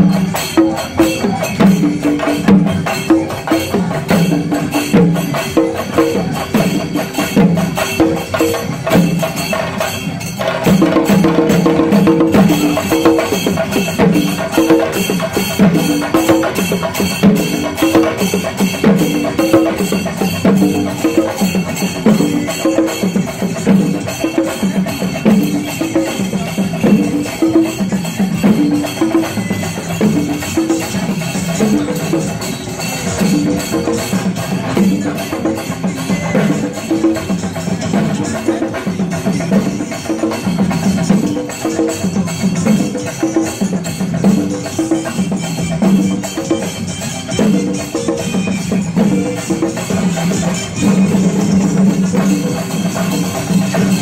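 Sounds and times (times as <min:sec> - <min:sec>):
drums beaten with sticks: 0:00.0 - 0:54.0.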